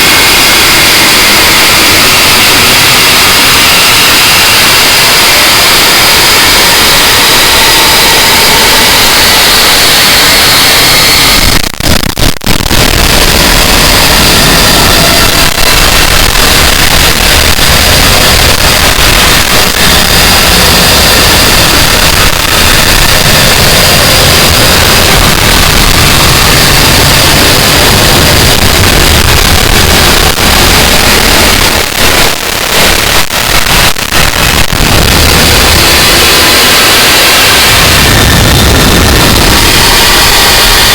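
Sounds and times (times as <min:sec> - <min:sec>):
distorted static noise music: 0:00.0 - 0:40.9.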